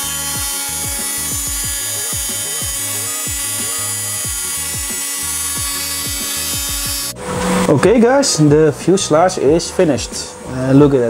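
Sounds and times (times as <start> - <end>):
background music with deep bass: 0.0 - 11.0
electric rotary sander running: 0.0 - 11.0.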